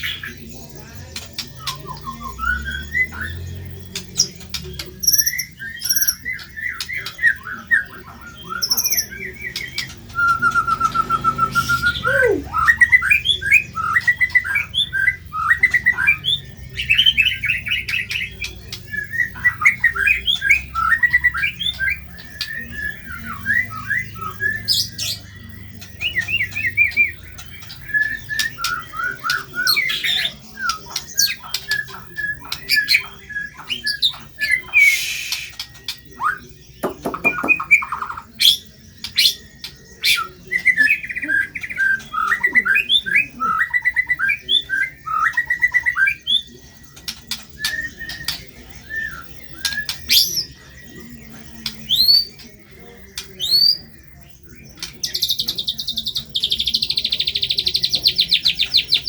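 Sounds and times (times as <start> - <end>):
fast rattling bird trill: 0.0 - 59.0
bird singing whistled phrases: 1.4 - 4.3, 4.9 - 52.5.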